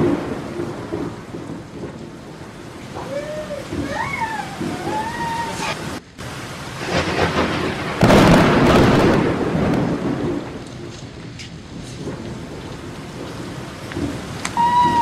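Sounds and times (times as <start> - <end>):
rain on concrete roof: 0.0 - 15.0
thunderclap rumbling: 0.0 - 15.0.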